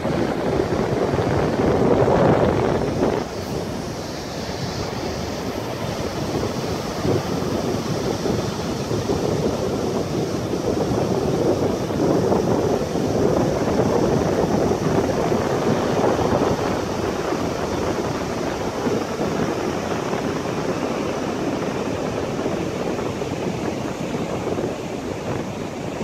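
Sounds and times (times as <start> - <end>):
surf roaring on beach: 0.0 - 26.0
wind buffeting microphone: 0.0 - 26.0.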